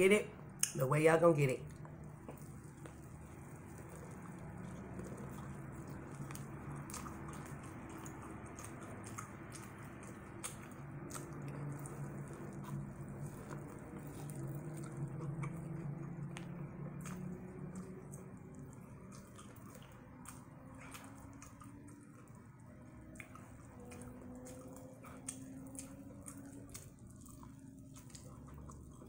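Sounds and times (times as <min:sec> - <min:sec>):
low hum: 0:01.4 - 0:29.0
chewing crispy fried corn: 0:01.6 - 0:29.0.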